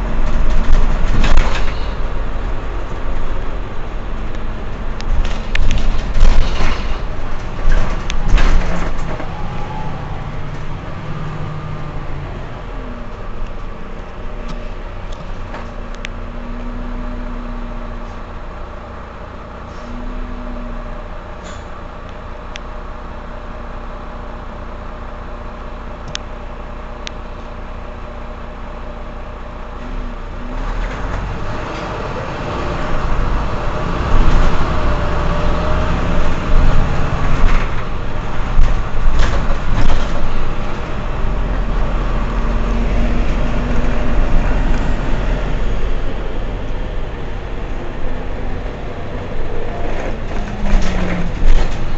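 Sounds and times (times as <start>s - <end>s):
bus engine idling: 0.0s - 51.9s
rough engine and traffic noise: 0.0s - 51.9s.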